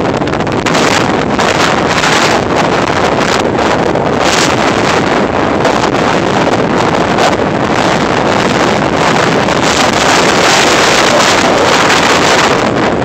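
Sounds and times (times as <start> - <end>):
off-road vehicle running: 0.0 - 13.0
wind buffeting microphone: 0.0 - 13.0.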